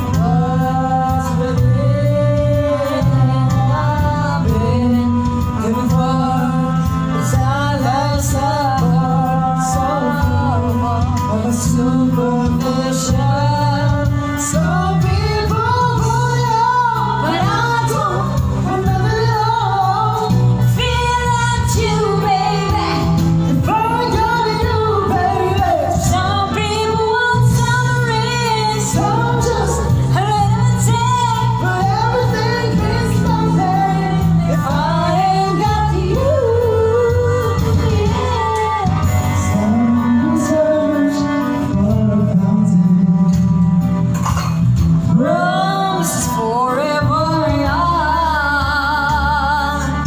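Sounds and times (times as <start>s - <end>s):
karaoke backing track: 0.0s - 50.0s
man and woman singing duet: 0.0s - 50.0s.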